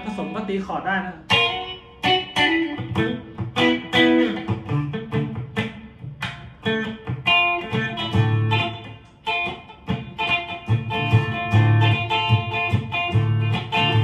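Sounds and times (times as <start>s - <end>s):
clean electric guitar notes and chords: 1.2s - 14.0s.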